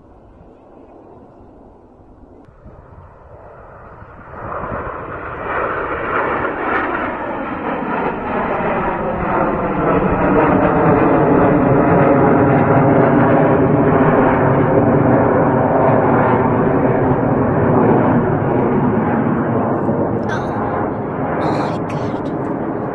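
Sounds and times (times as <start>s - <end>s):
jets roaring overhead: 0.1s - 19.6s.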